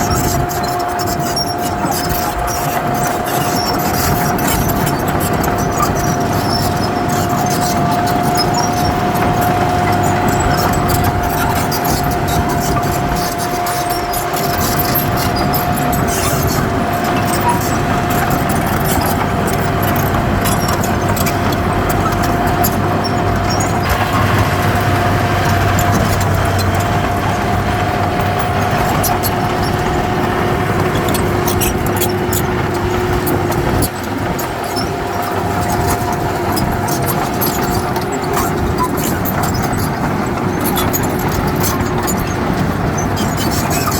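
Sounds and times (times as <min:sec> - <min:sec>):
heavy diesel machinery running: 0:00.0 - 0:43.9
steady whine: 0:00.0 - 0:43.9.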